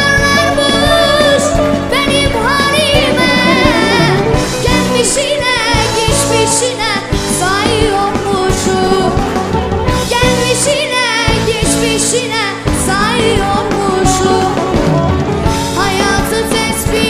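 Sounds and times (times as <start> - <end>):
instrumental accompaniment with beat: 0.0 - 17.0.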